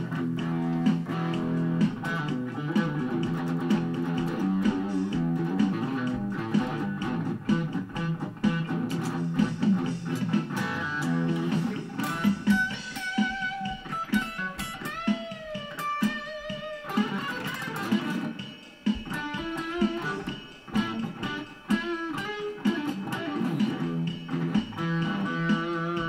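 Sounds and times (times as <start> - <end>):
plucked electric guitar song: 0.0 - 26.0.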